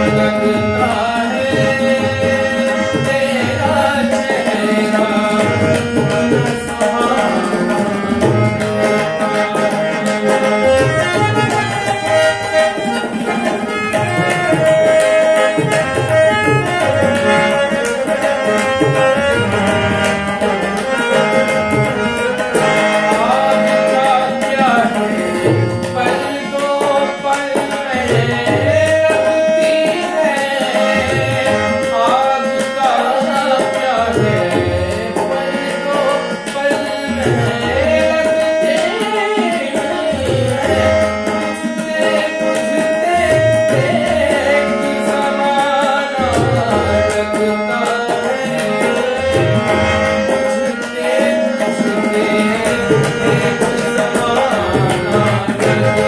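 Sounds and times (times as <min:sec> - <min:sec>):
harmonium chords: 0:00.0 - 0:56.0
man singing: 0:00.0 - 0:56.0.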